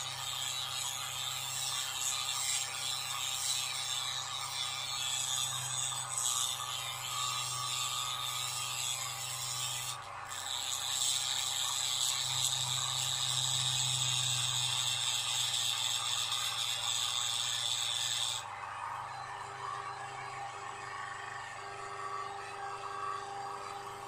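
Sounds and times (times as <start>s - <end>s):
small electric drill grinding: 0.0s - 24.0s.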